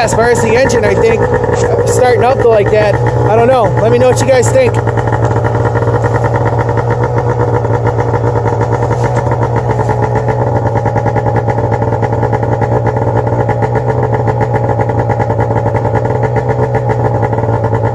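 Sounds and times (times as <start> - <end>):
snowmobile engine running: 0.0 - 17.9.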